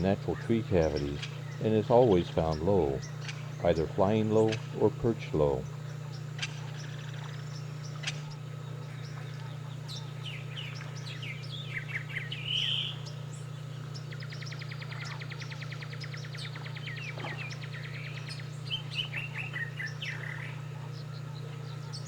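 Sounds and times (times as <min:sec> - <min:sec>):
birds chirping: 0:00.0 - 0:22.0
rapid bird trill: 0:00.0 - 0:22.0
steady low hum: 0:00.0 - 0:22.0.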